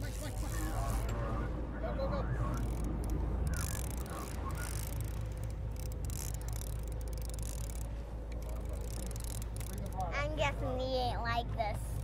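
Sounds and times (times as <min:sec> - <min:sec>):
wind and sea hiss: 0:00.0 - 0:10.7
boat engine rumbling: 0:00.0 - 0:12.0.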